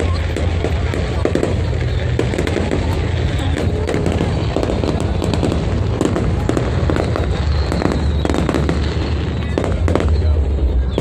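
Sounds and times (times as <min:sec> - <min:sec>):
continuous low rumble: 0:00.0 - 0:11.0
fireworks cracking and popping: 0:00.0 - 0:11.0.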